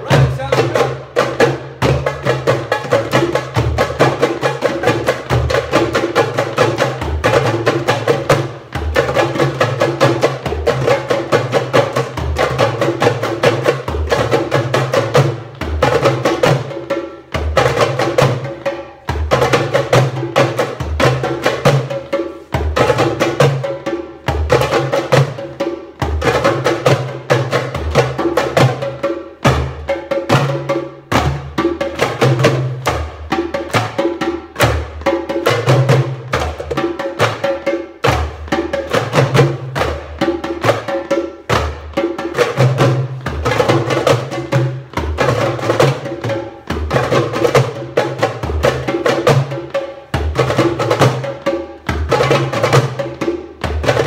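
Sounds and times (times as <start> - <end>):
goblet drums playing: 0.0 - 54.0.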